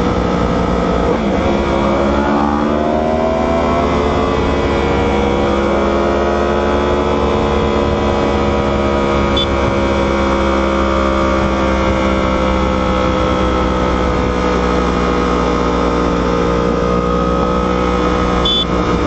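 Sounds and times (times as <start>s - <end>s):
motorcycle engine at high speed: 0.0s - 19.0s.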